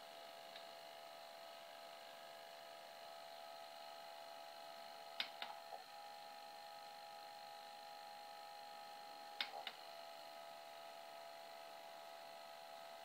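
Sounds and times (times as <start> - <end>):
video recorder mechanism whine: 0.1 - 13.0.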